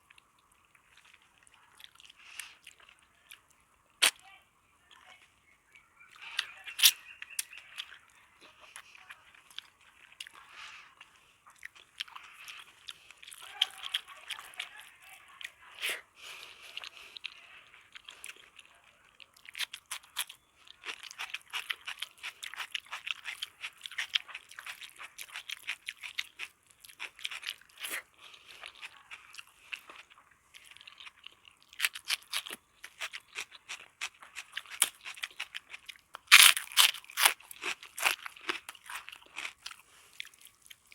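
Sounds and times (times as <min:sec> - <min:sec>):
chewing crunchy food: 0:00.0 - 0:04.2, 0:04.8 - 0:40.9.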